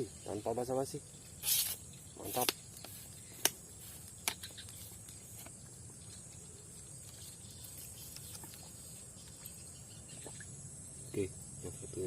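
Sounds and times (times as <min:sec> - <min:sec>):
insects humming: 0:00.0 - 0:12.0.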